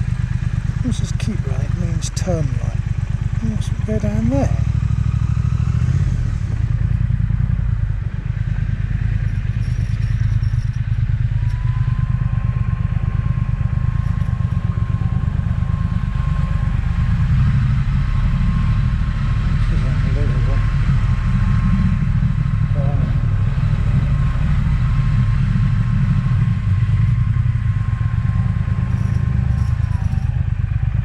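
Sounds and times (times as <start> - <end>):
high steady whine: 0.0 - 31.0
motorcycle engine running: 0.0 - 31.0.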